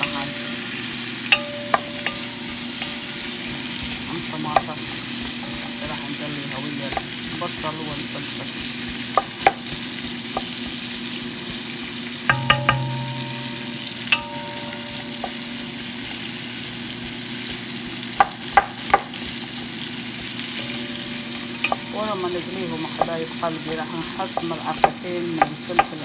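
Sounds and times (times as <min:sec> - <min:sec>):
vegetables sizzling in oil: 0:00.0 - 0:26.0
wooden spoon knocking on pot: 0:01.2 - 0:26.0.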